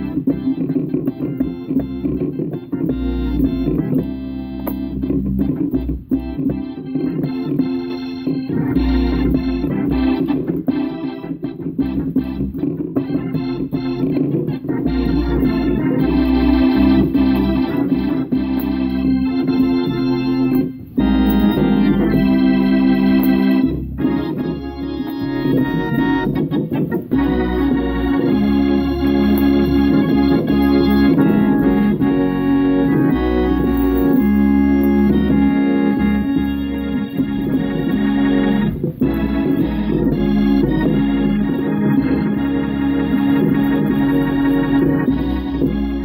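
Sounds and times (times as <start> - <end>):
gospel organ chords: 0.0 - 46.0
deep bass line: 1.3 - 6.9, 8.5 - 46.0.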